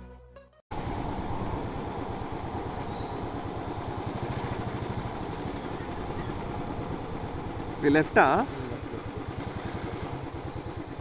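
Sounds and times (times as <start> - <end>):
motorcycle engine running: 0.7 - 11.0
road noise: 0.7 - 11.0.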